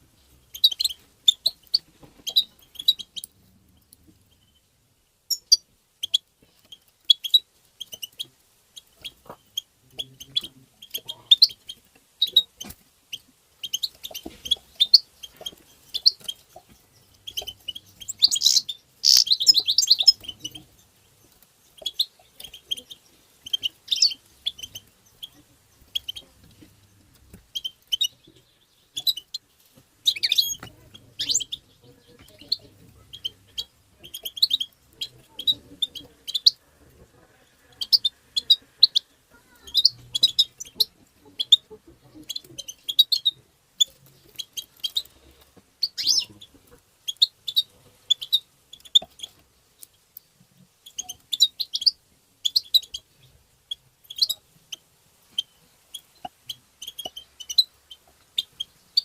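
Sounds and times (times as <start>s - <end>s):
bird twittering chirps: 0.4s - 4.7s, 5.3s - 36.6s, 37.7s - 45.2s, 45.8s - 49.4s, 50.8s - 59.0s.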